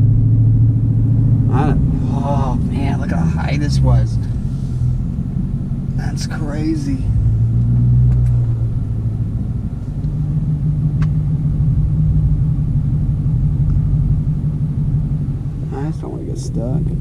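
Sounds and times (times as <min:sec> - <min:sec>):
car engine running while driving: 0:00.0 - 0:17.0.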